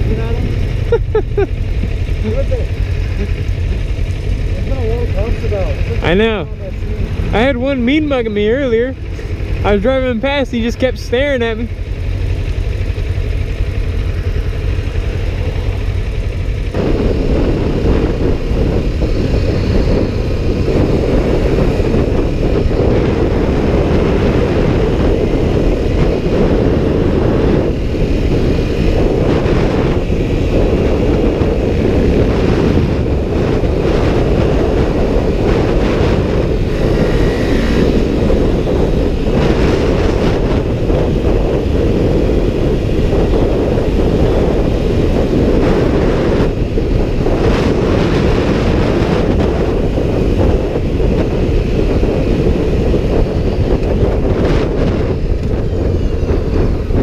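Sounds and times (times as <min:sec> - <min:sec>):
motorcycle engine rumbling: 0:00.0 - 0:57.0
wind noise: 0:00.0 - 0:57.0.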